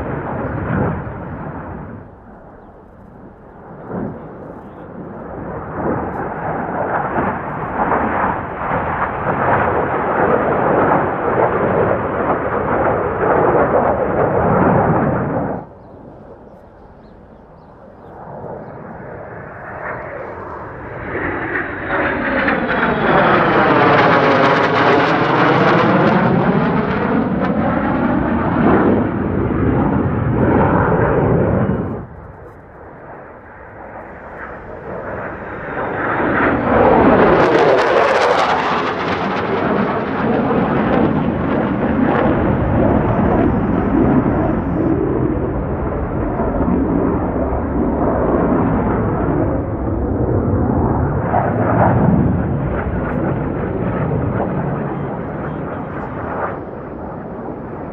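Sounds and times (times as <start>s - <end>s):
fighter jets flying by: 0.0s - 57.9s.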